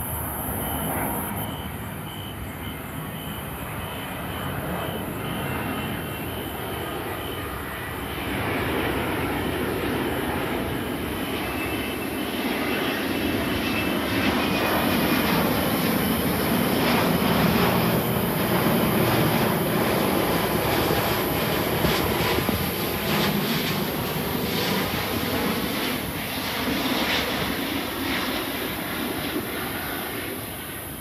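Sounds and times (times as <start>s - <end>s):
jet airliner passing overhead: 0.0s - 31.0s.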